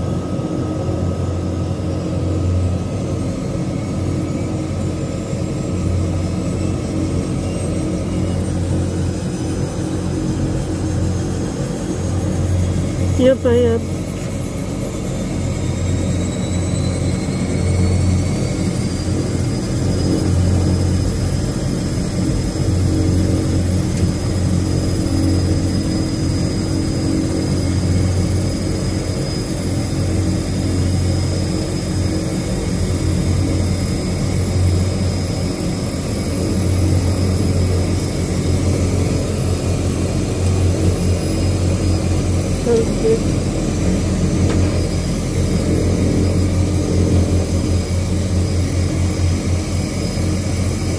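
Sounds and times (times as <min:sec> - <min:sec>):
propeller drone: 0:00.0 - 0:50.9
turbine whine: 0:00.0 - 0:50.9.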